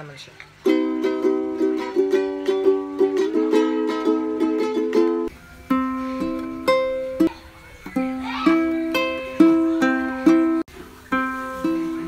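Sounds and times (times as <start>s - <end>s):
ukulele strumming chords: 0.6s - 12.0s.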